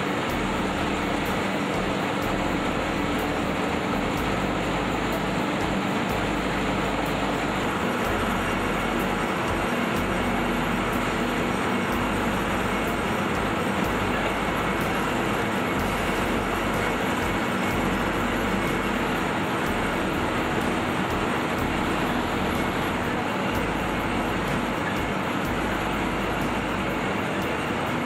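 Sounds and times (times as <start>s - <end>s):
soap milling machinery din: 0.0s - 28.0s.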